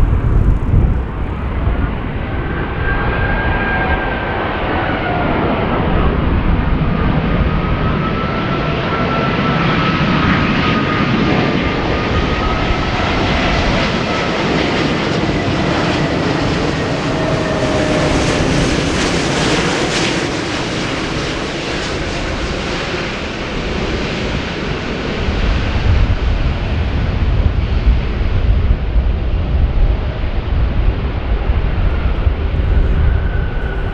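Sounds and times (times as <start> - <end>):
jet engines roaring: 0.0 - 33.9
wind rumble on microphone: 0.0 - 33.9.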